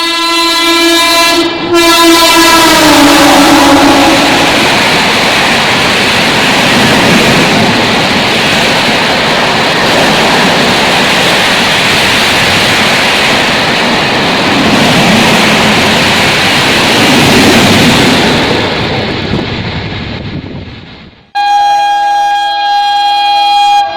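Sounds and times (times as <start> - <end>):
train passing at high speed: 0.0 - 23.9.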